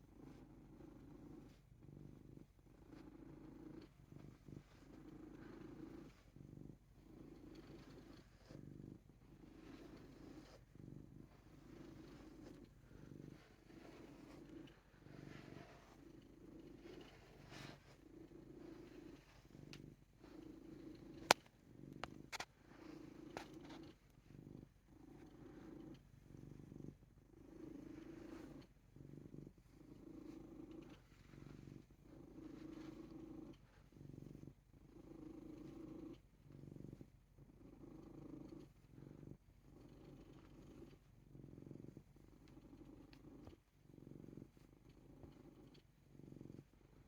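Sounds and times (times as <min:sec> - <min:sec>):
cat purring: 0:00.0 - 0:47.0.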